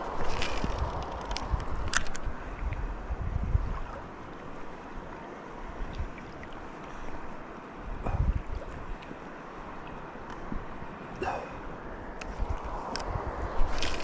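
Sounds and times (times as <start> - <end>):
wind buffeting microphone: 0.0 - 6.6, 7.8 - 14.0
water rushing: 0.0 - 14.0.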